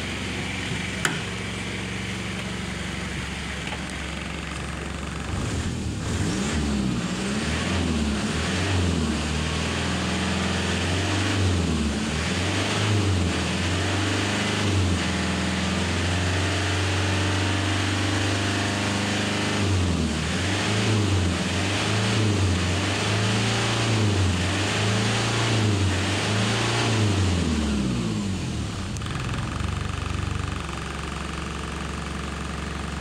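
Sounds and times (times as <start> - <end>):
diesel engine revving: 0.0 - 31.1.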